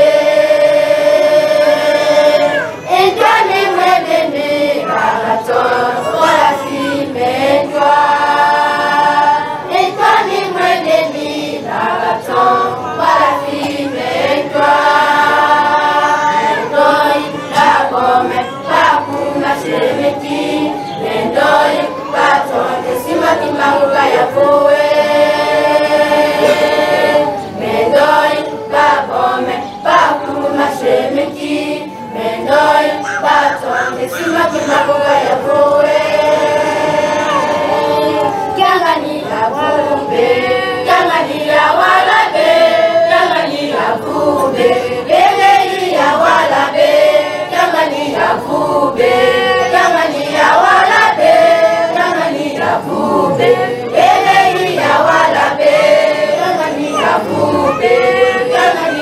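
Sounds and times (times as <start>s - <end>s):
crowd singing together: 0.0s - 59.0s.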